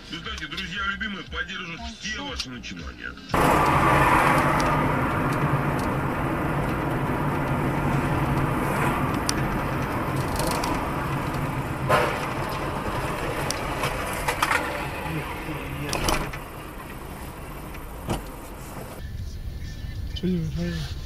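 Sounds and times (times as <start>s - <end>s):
car engine and tyre noise: 3.2s - 21.0s.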